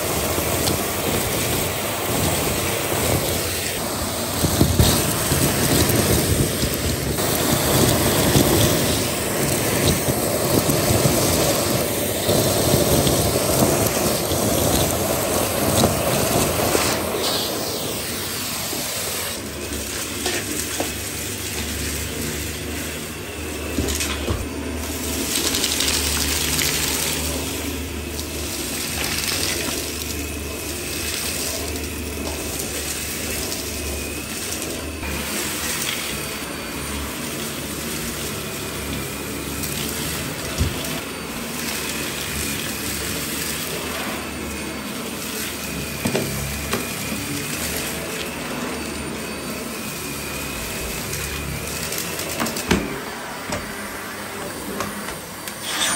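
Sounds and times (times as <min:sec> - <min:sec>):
vacuum cleaner running: 0:00.0 - 0:55.9.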